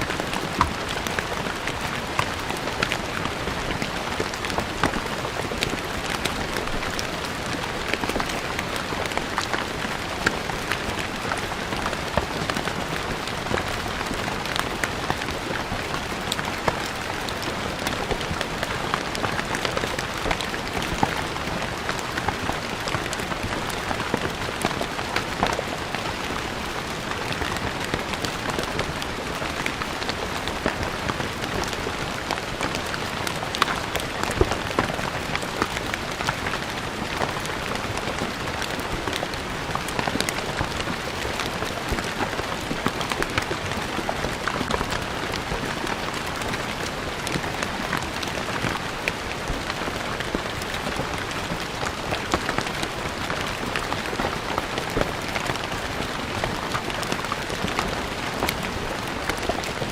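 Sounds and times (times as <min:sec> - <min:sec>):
rain on stone floor: 0:00.0 - 0:59.9.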